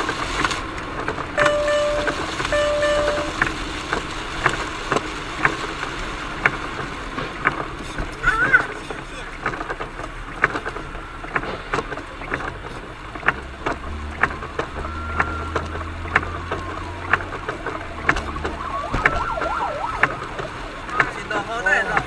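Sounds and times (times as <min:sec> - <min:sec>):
road and tyre noise on wet road: 0:00.0 - 0:22.0.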